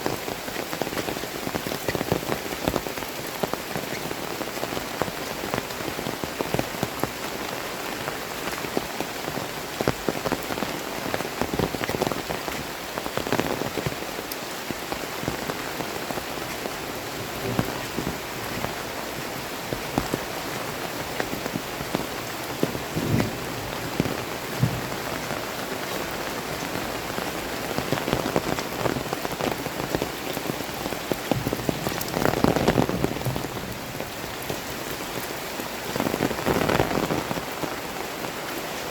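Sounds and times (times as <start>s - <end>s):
heavy rain falling: 0.0s - 38.9s
raindrops striking close by: 0.0s - 38.9s.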